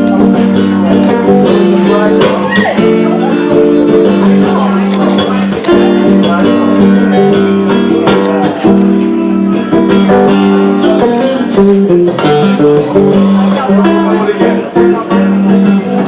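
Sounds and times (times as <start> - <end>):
guitar strumming and picking: 0.0 - 16.0.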